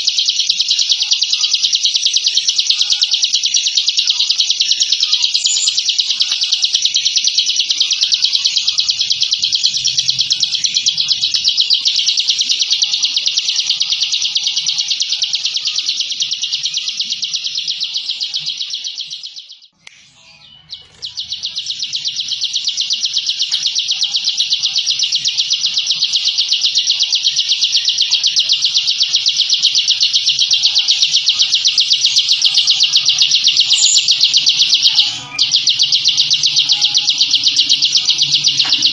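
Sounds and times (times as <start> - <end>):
bird giving rapid trill: 0.0 - 19.7, 20.5 - 38.9.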